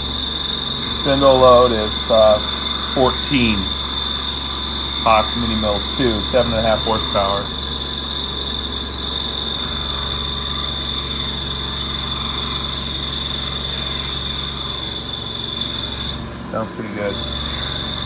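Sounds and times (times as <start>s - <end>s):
milling machine cutting metal: 0.0s - 18.0s.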